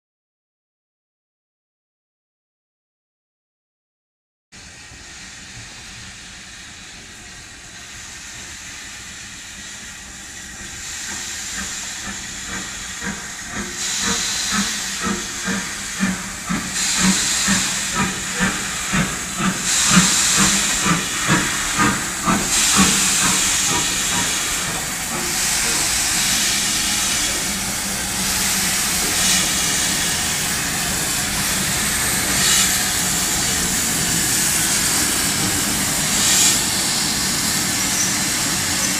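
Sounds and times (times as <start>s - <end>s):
steam hissing: 4.6s - 38.9s
steam locomotive chuffing: 4.6s - 38.9s.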